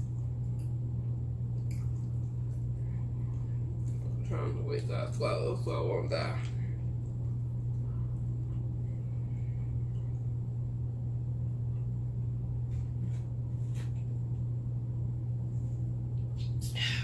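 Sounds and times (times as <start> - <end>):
low-pitched hum: 0.0 - 17.0.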